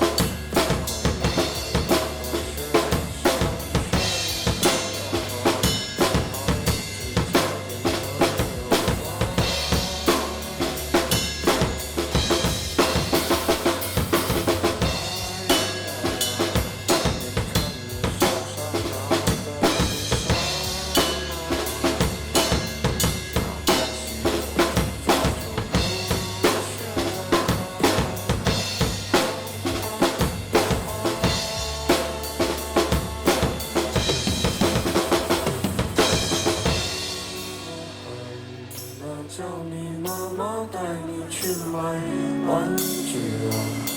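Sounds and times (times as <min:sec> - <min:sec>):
rock backing track: 0:00.0 - 0:39.1, 0:41.4 - 0:43.9
drum kit rock groove: 0:00.0 - 0:39.3, 0:41.4 - 0:43.9.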